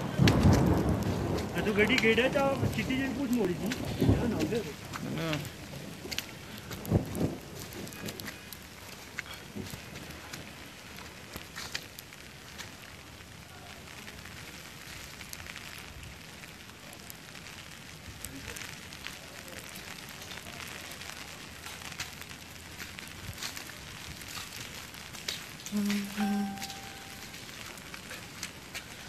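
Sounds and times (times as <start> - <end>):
wet snow falling hiss: 0.0 - 29.0.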